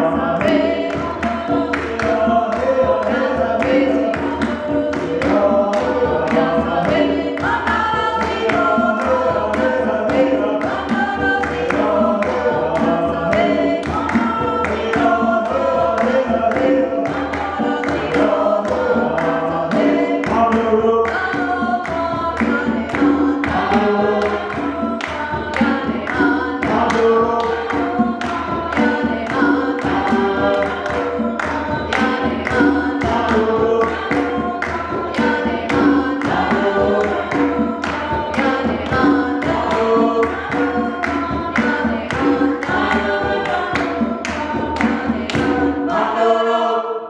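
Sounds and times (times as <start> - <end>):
wooden marimbas playing: 0.0 - 46.0
people singing together: 0.0 - 47.0.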